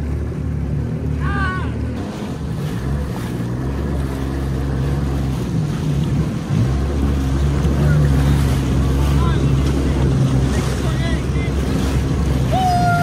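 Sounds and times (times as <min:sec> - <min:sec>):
jet ski engine drone: 0:00.0 - 0:13.0
rushing water: 0:00.0 - 0:13.0.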